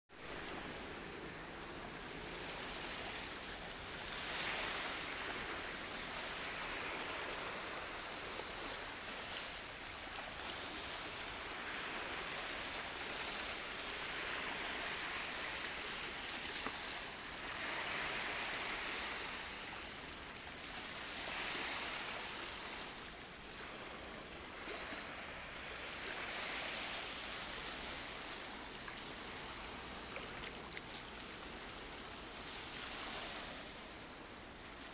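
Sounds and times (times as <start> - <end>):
small waves washing on shore: 0.1 - 34.9.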